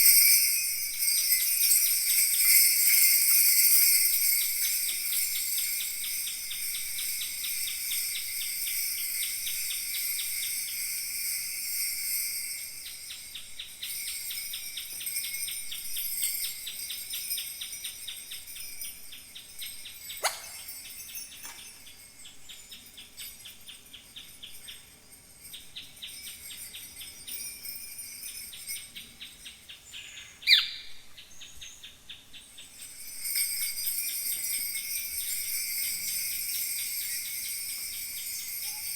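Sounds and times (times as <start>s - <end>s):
bronze bells jingling: 0.0s - 38.9s.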